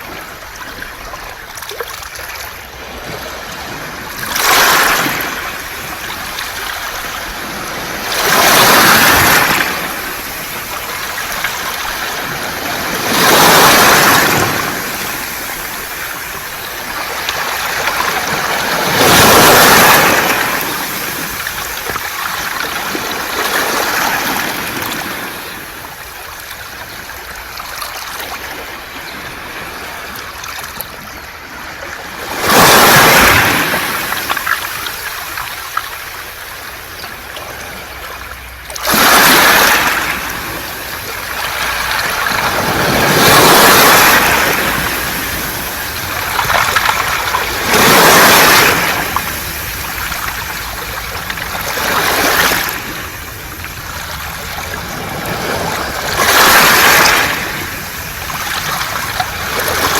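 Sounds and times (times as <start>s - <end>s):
waves breaking on pebbles: 0.0s - 59.9s.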